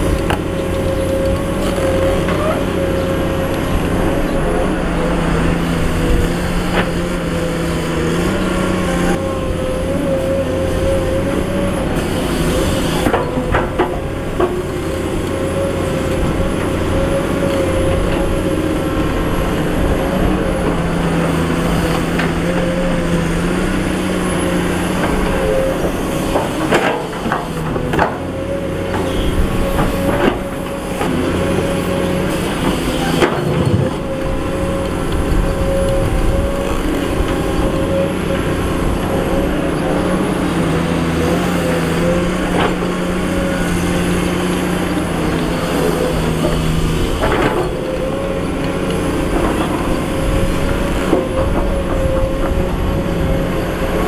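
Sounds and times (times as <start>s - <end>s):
excavator diesel engine whine: 0.0s - 54.0s.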